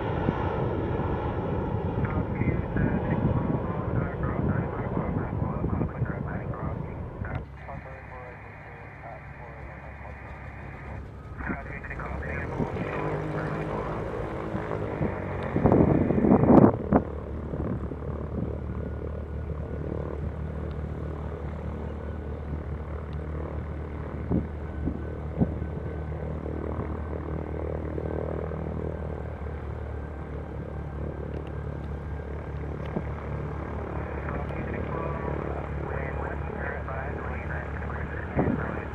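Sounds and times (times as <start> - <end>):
aircraft engines humming: 0.0 - 38.9.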